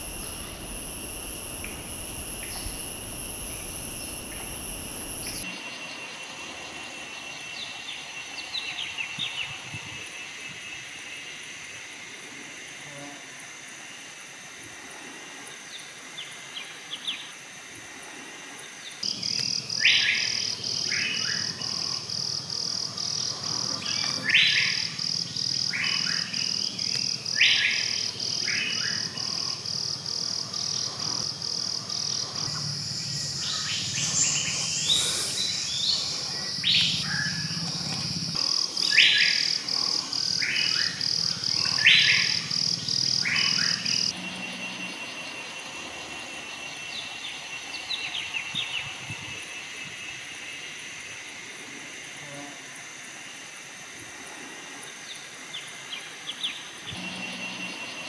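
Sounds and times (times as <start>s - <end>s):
insect buzzing: 0.0s - 58.0s.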